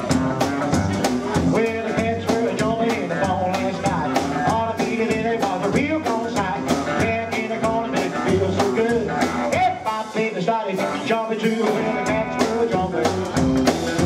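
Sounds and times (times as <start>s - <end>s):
drum kit steady beat: 0.0s - 14.0s
electric guitar: 0.0s - 14.0s
slapped upright bass: 0.0s - 14.0s.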